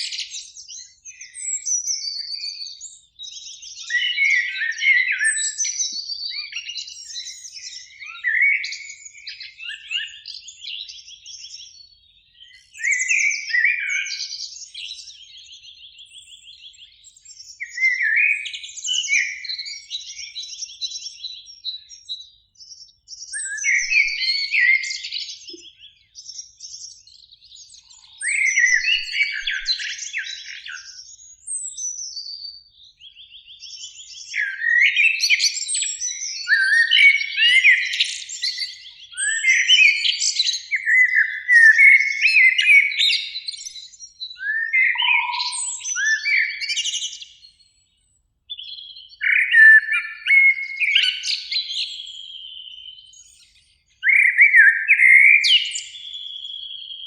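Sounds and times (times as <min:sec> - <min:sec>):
blackbird singing: 0:00.0 - 0:57.0.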